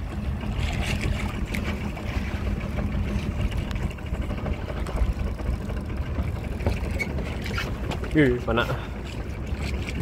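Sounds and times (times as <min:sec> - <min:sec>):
boat engine rumbling: 0:00.0 - 0:10.0.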